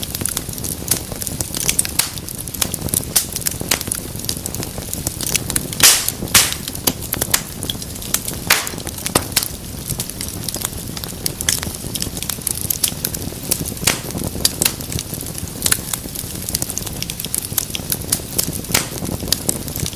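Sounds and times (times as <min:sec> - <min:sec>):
low rumble of flames: 0:00.0 - 0:19.9
wood fire crackling and popping: 0:00.0 - 0:19.9.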